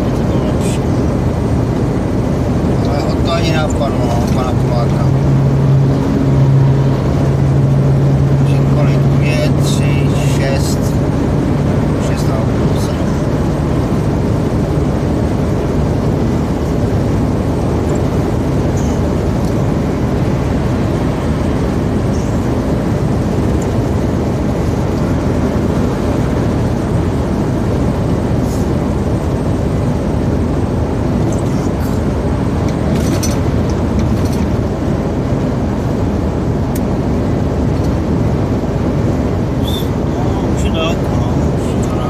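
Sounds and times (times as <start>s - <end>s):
lorry engine drone: 0.0s - 42.0s
tyres on wet road: 0.0s - 42.0s.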